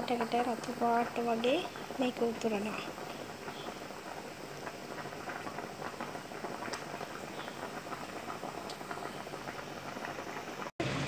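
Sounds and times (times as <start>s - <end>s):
broth boiling in a pot: 0.0s - 11.0s.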